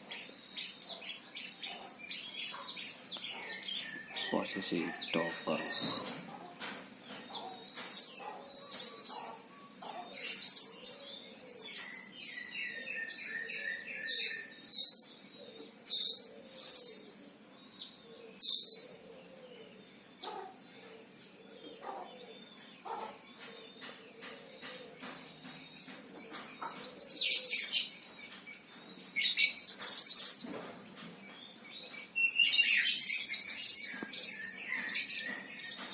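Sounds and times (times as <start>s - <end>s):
songbird chirping: 0.0s - 35.9s.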